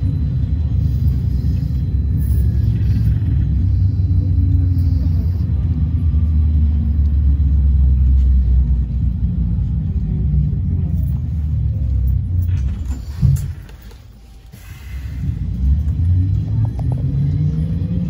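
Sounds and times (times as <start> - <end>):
trolleybus rumble from inside: 0.0 - 18.0.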